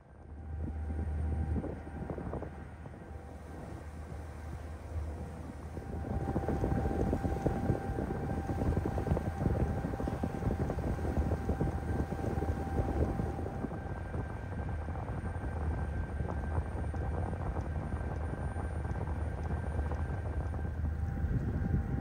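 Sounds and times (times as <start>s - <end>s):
ferry engine drone: 0.0s - 22.0s
machinery whine: 0.0s - 22.0s
wind buffeting microphone: 0.2s - 22.0s.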